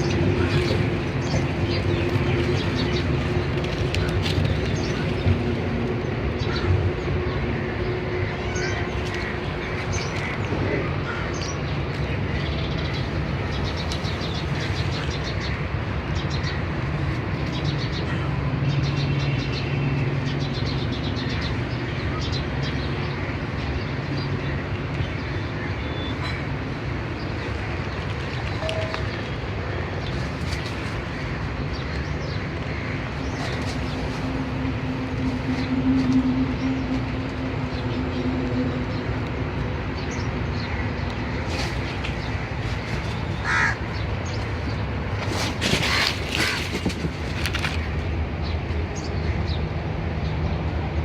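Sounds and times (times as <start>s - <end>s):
low traffic rumble: 0.0s - 51.0s.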